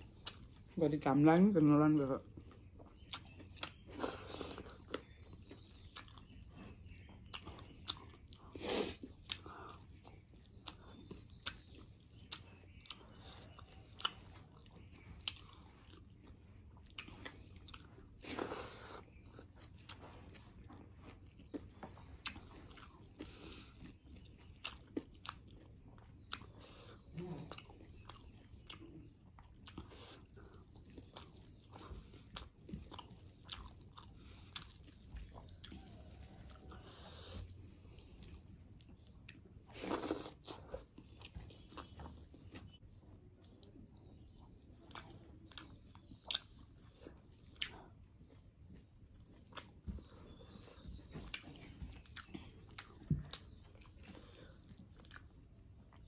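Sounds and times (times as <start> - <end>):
person chewing food: 0.0 - 0.7, 2.3 - 56.0.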